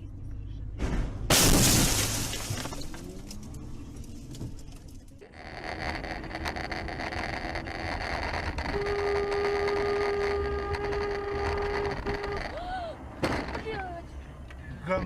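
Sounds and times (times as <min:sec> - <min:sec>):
road and engine noise: 0:00.0 - 0:15.0.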